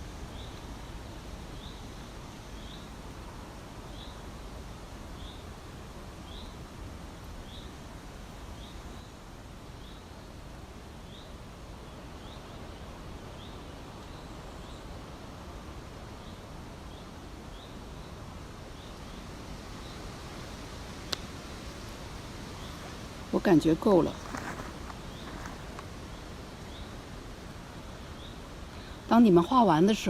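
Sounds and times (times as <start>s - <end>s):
outdoor background hiss: 0.0s - 30.0s.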